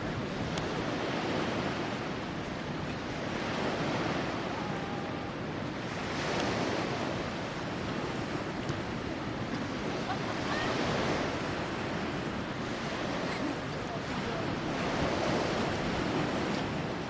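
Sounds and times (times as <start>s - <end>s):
sea surf washing ashore: 0.0s - 17.0s
wind rumbling on microphone: 0.0s - 17.0s.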